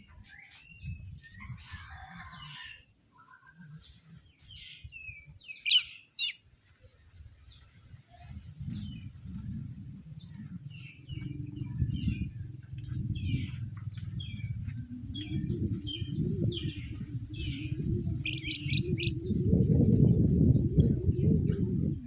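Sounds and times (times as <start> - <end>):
birds chirping quickly: 0.0 - 19.6.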